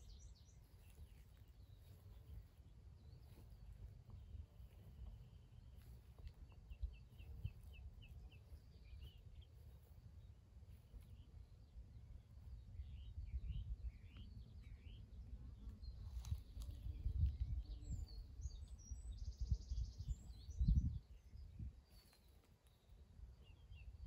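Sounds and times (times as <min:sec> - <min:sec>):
songbird chirps: 0:00.0 - 0:24.0.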